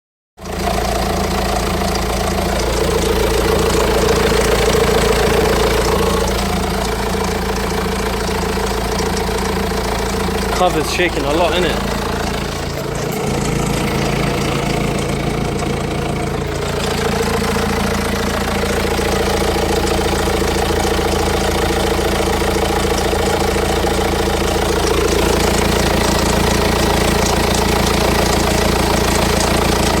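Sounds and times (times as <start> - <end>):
diesel engine idling: 0.4 - 30.0.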